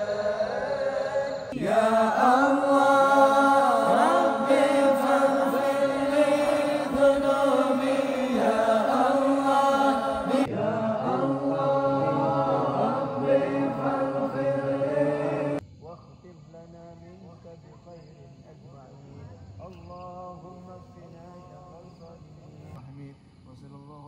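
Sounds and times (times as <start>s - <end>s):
men chanting a devotional song: 0.0s - 24.0s.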